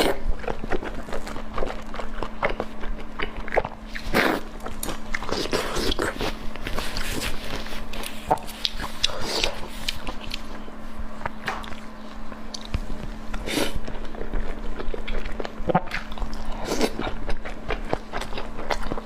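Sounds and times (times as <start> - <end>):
faint steady hum: 0.0 - 19.0
person chewing food: 0.0 - 19.0.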